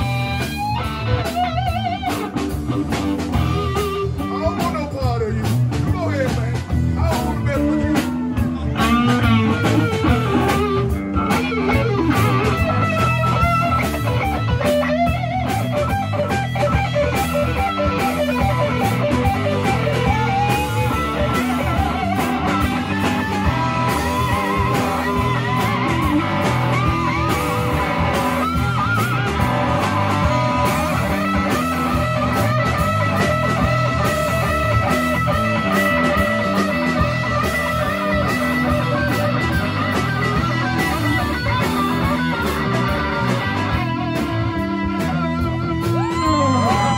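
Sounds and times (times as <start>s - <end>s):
electric blues band playing: 0.0s - 46.9s
lead guitar with bent notes: 0.0s - 46.9s.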